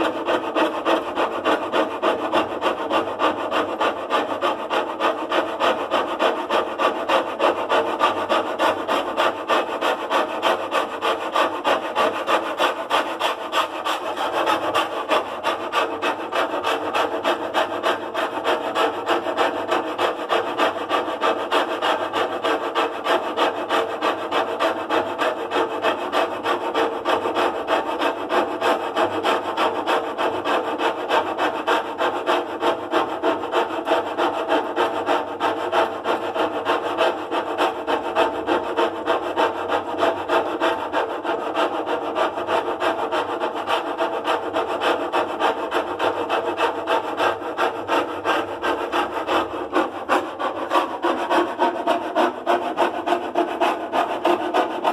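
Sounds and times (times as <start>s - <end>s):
rhythmic rasping scrape: 0.0s - 54.9s.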